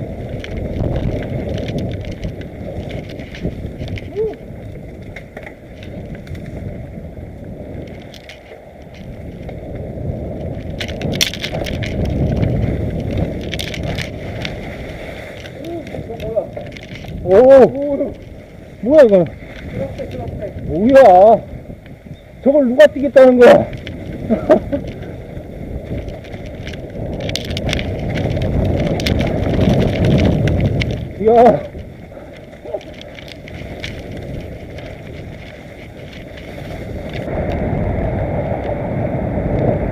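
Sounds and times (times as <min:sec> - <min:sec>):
tyres rumbling over dirt: 0:00.0 - 0:21.8, 0:22.4 - 0:39.9
bike rattling and clicking: 0:00.0 - 0:39.9
wind on microphone: 0:00.0 - 0:39.9.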